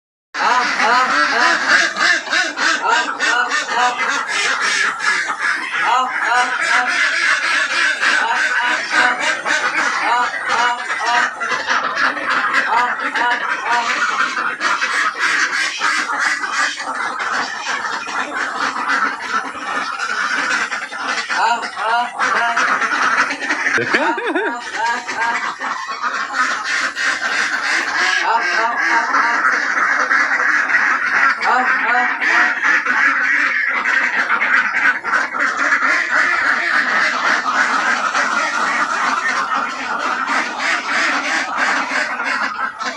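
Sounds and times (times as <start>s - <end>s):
ducks quacking: 0.4s - 42.9s.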